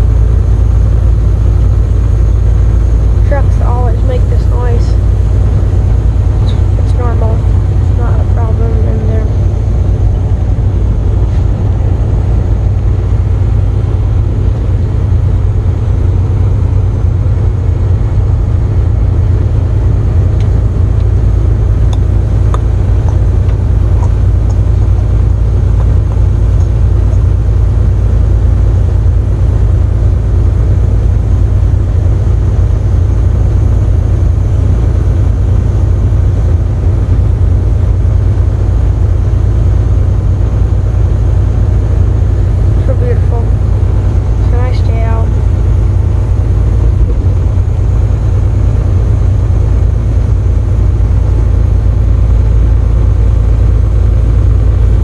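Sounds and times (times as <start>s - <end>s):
road noise inside cab: 0.0s - 55.0s
truck diesel engine rumble: 0.0s - 55.0s.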